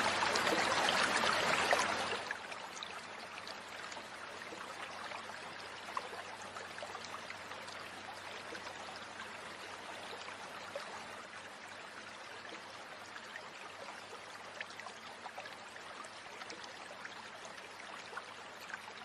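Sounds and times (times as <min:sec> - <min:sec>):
stream flowing over gravel: 0:00.0 - 0:19.0.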